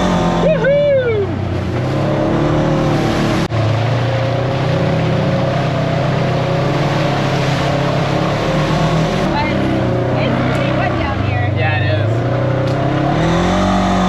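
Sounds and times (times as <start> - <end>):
engine running under throttle: 0.0 - 14.0.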